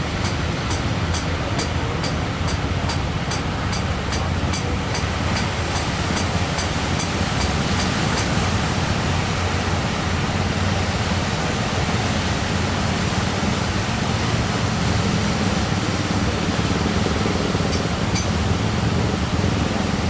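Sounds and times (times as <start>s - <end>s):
heavy surf: 0.0s - 20.0s
wind: 0.0s - 20.0s.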